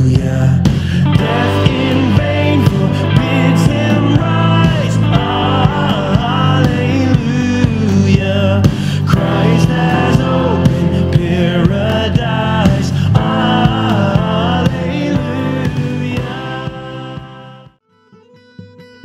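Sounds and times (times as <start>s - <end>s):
song with sung melody and beat: 0.0s - 17.8s.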